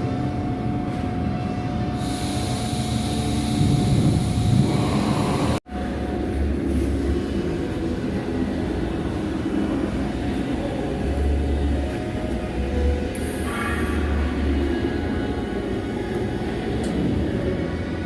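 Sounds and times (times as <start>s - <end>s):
machine rumble and hum: 0.0s - 18.0s.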